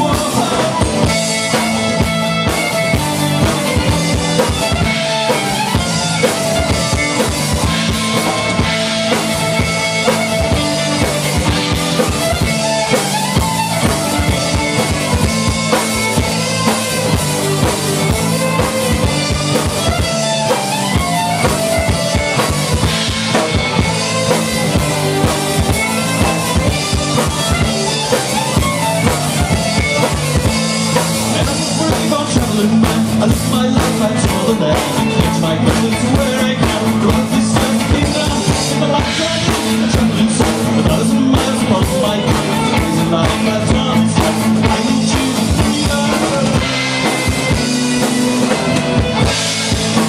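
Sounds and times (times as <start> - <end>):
acoustic and electric guitars: 0.0 - 50.0
drum kit steady beat: 0.0 - 50.0
fiddle: 0.0 - 50.0.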